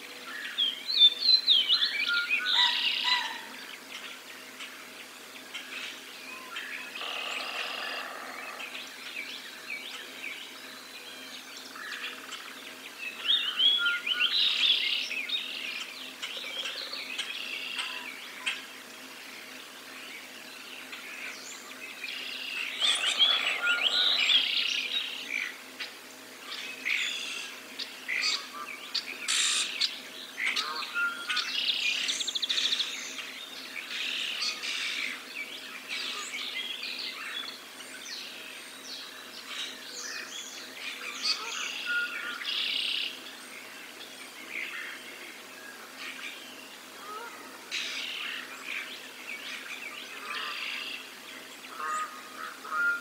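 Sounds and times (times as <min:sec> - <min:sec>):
songbirds chirping and trilling: 0:00.0 - 0:53.0.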